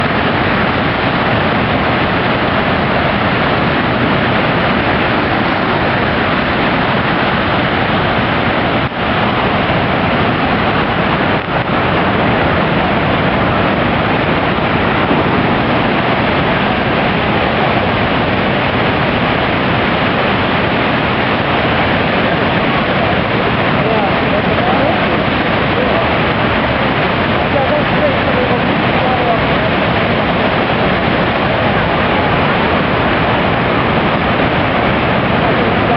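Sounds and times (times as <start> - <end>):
river whitewater rushing: 0.0 - 35.9.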